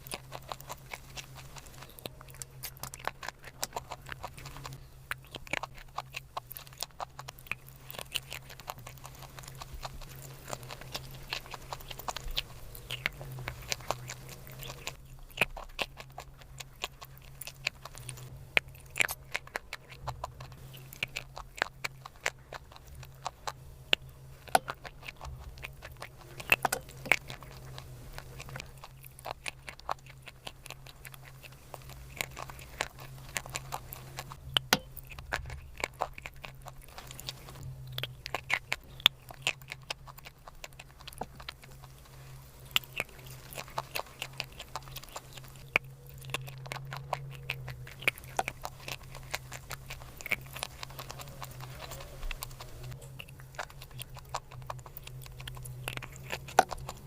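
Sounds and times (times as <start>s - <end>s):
crunchy chewing and biting: 0.0s - 57.0s
steady low hum: 0.0s - 57.0s.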